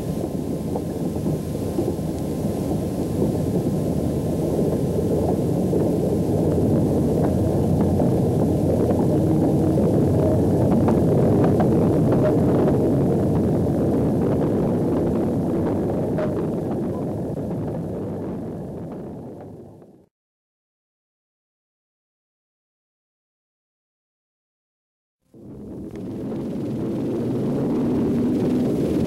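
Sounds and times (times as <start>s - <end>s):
diesel locomotive rumbling: 0.0s - 20.0s, 25.4s - 29.0s.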